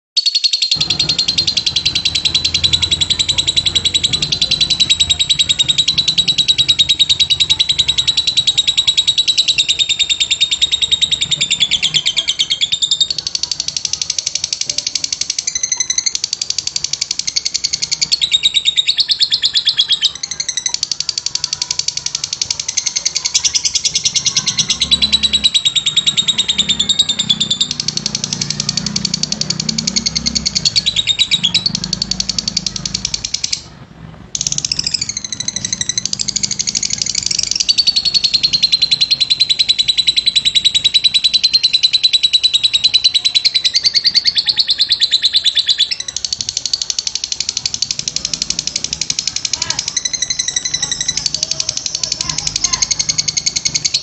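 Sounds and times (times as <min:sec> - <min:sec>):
bird chattering trill: 0:00.2 - 0:54.0.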